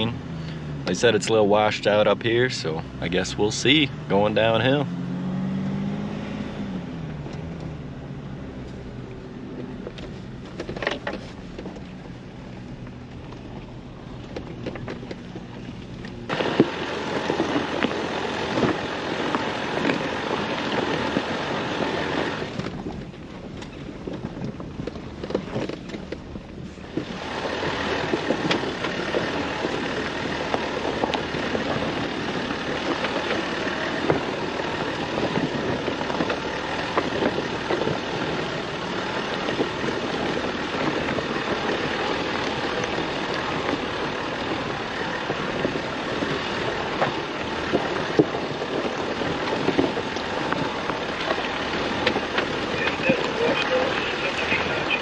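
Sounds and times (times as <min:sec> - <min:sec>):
vehicle driving on rough trail: 0:00.0 - 0:55.0.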